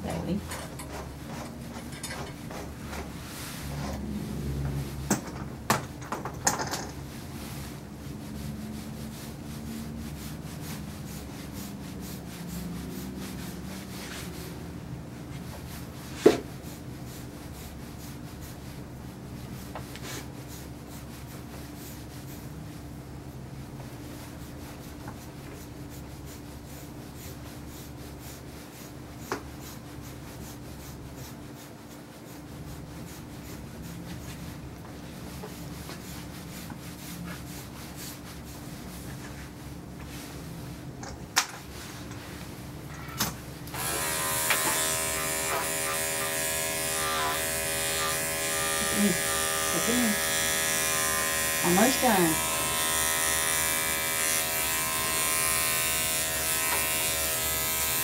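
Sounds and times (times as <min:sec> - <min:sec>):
brush rubbing through dog coat: 0:00.0 - 0:05.0, 0:07.0 - 0:23.0, 0:23.6 - 0:40.9, 0:41.6 - 0:42.6, 0:43.8 - 0:57.0.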